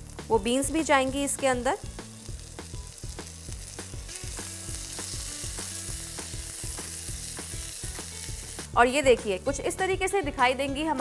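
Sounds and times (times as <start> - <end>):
vegetables sizzling in frying pan: 0.0 - 9.8.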